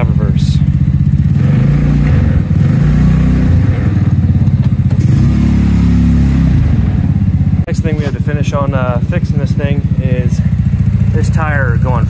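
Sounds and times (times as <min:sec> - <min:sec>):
go-kart engine revving: 0:00.0 - 0:12.0.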